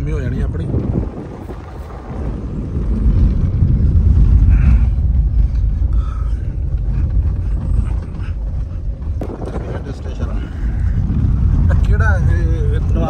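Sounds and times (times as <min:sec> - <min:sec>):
car rumbling on dirt track: 0:00.0 - 0:13.0.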